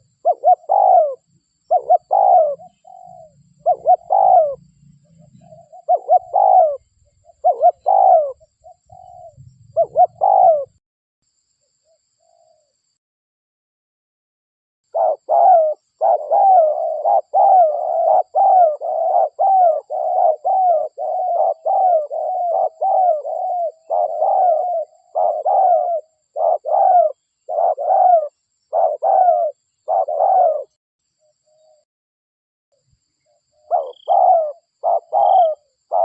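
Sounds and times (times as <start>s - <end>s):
dove cooing: 0.0s - 10.8s, 14.9s - 30.8s, 33.3s - 36.0s.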